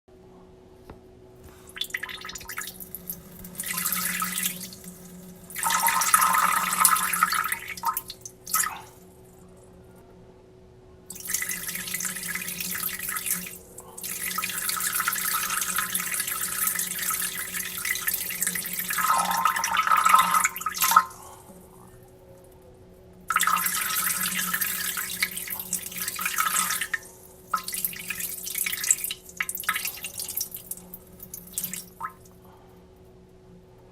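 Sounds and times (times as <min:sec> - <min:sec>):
person urinating: 0:01.5 - 0:09.1, 0:11.1 - 0:21.8, 0:23.3 - 0:32.4.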